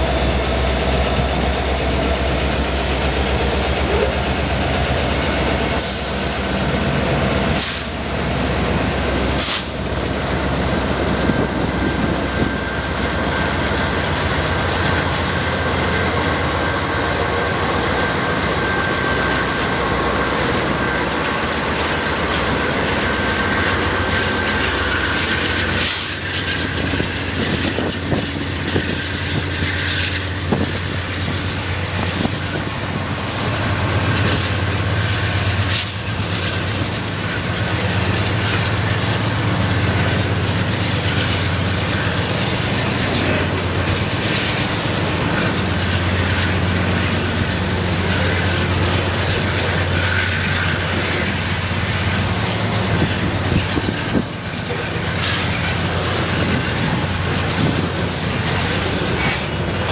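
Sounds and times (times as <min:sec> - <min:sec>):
diesel locomotives rumbling: 0:00.0 - 0:59.9
train wheels on rails: 0:00.0 - 0:59.9.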